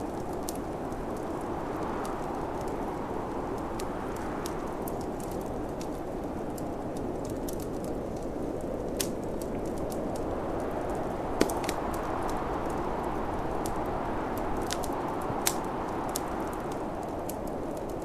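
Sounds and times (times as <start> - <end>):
fire popping: 0.0 - 18.0
snowstorm wind: 0.0 - 18.0
wood fire crackling: 0.0 - 18.0.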